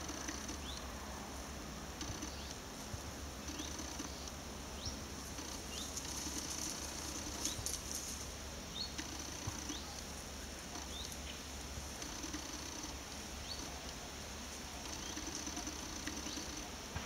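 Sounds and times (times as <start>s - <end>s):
crackling in undergrowth: 0.0s - 17.0s
insects trilling: 0.0s - 17.0s.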